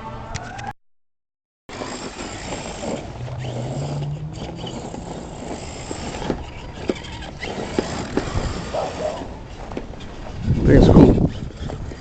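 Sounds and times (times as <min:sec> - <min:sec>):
electric motor whining: 0:01.7 - 0:12.0
toy truck driving over rough ground: 0:01.7 - 0:12.0.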